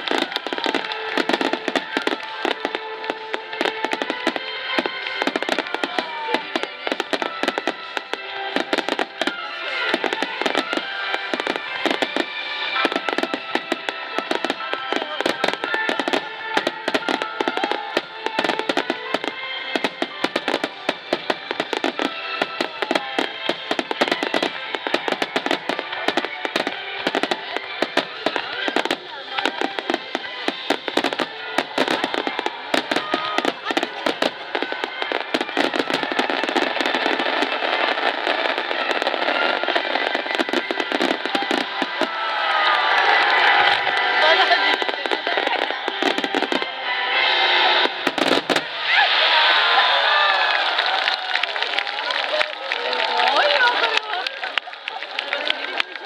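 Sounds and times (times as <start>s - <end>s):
music playing: 0.0s - 50.8s
fireworks bangs and crackles: 0.0s - 56.0s.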